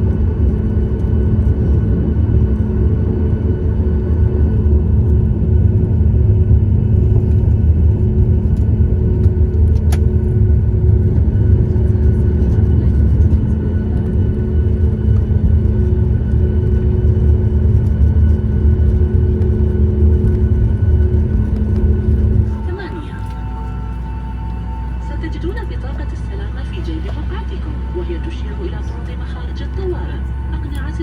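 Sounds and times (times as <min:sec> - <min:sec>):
airplane cabin rumble and hum: 0:00.0 - 0:31.0.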